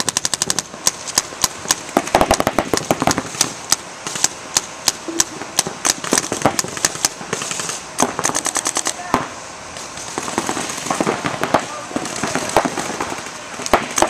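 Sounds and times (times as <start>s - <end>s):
paintball markers firing: 0.0s - 9.0s, 10.2s - 14.0s.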